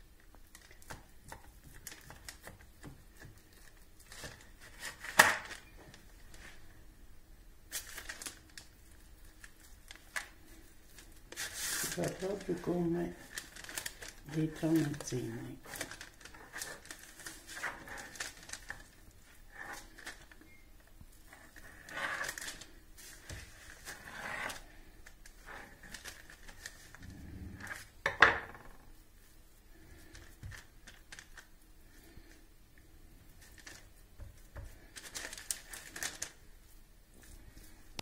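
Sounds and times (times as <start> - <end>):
baking paper crinkling: 0.2 - 6.8, 7.7 - 28.1, 28.8 - 38.0.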